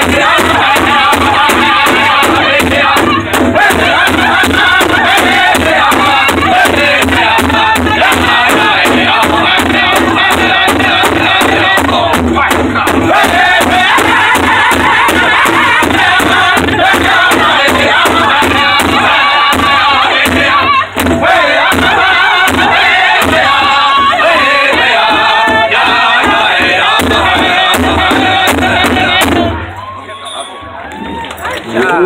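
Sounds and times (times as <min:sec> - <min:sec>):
group singing: 0:00.0 - 0:29.8
large hide drum beat: 0:00.0 - 0:29.8.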